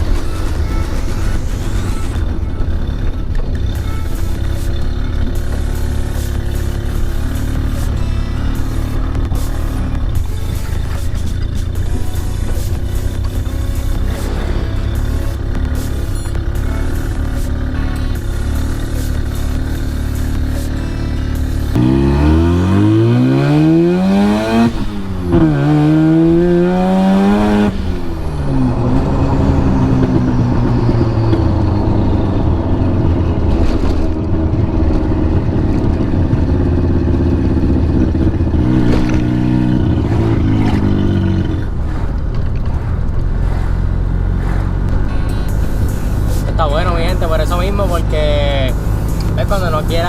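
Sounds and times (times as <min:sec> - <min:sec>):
rotary engine accelerating hard: 0:00.0 - 0:50.0.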